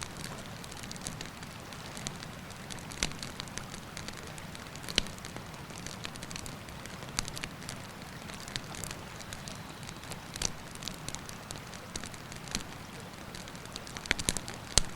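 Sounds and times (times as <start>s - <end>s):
campfire crackling and popping: 0.0s - 14.9s.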